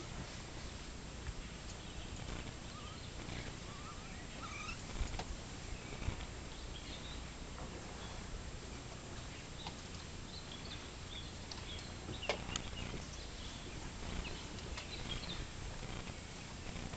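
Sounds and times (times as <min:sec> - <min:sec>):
low hum: 0:00.0 - 0:16.9
small birds chirping: 0:00.0 - 0:16.9.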